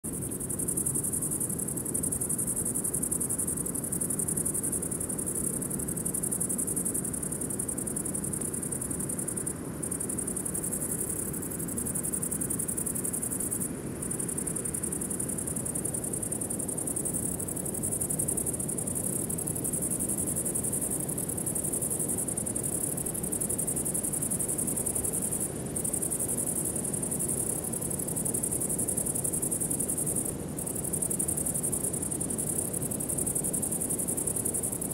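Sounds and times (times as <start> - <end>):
insect chorus trilling: 0.1 - 34.9
low steady haze: 0.1 - 34.9.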